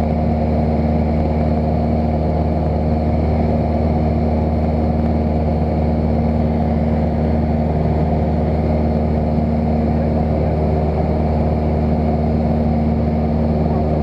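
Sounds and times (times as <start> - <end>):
aircraft engine droning in cabin: 0.0 - 14.0.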